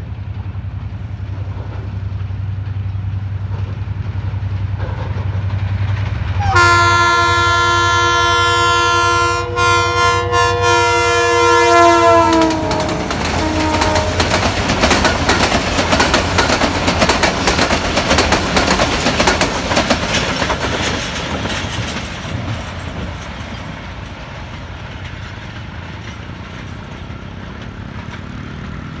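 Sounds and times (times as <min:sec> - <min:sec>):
wheels clattering on rails: 0:00.0 - 0:07.7, 0:10.8 - 0:29.0
train rumble: 0:00.0 - 0:29.0.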